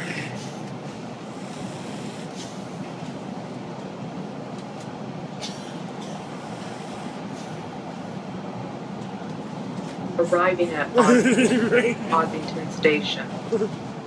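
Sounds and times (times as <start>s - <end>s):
subway wheels rumbling on track: 0.0s - 14.0s.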